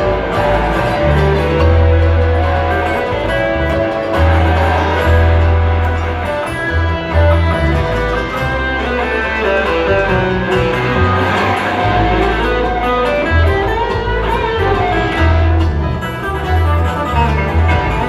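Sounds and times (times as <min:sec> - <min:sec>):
guitars: 0:00.0 - 0:18.0
heavy bass line: 0:00.0 - 0:18.0
live band playing: 0:00.0 - 0:18.0.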